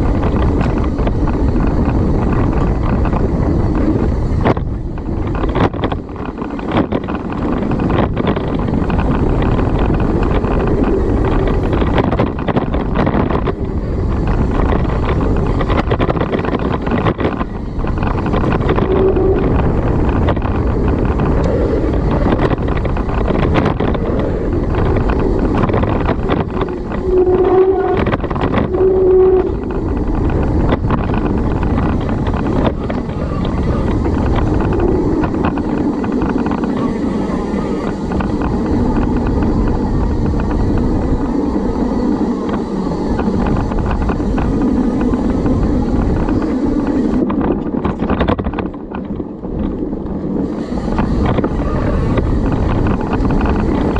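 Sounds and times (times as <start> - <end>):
bike rattling down dirt trail: 0.0 - 53.9
wind buffeting microphone: 0.0 - 53.9.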